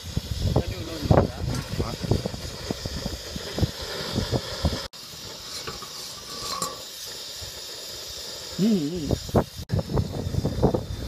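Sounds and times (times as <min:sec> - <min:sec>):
gas stove burner hissing: 0:00.0 - 0:11.0.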